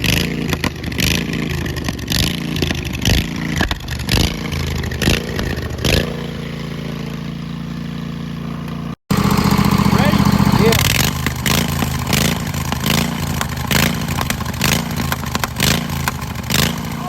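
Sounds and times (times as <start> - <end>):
lawnmower engine surging and idling: 0.0 - 17.0.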